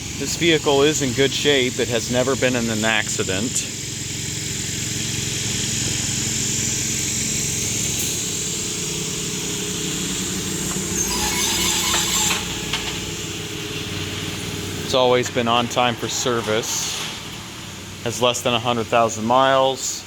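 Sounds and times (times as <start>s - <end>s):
engine idling: 0.0s - 20.0s
hissy mechanical noise: 0.0s - 20.0s.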